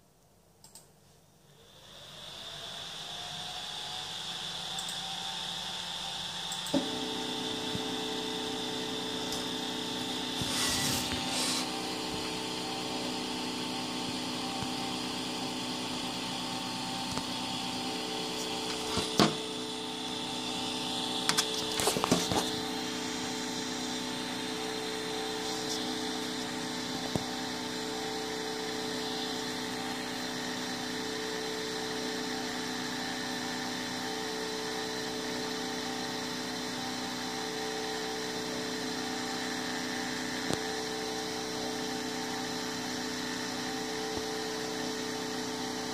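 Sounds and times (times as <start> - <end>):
printer motor hum: 1.5 - 45.9.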